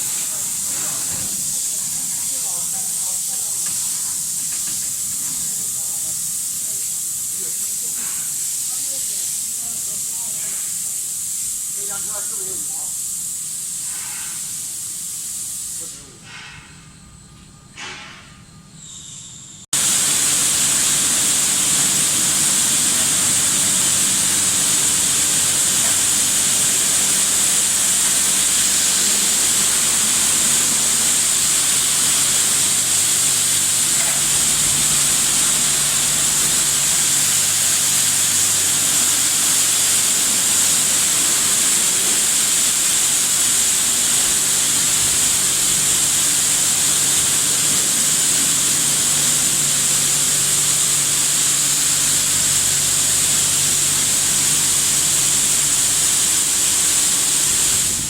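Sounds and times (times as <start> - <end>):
high-pressure water jets spraying: 0.0 - 16.5, 19.8 - 58.0.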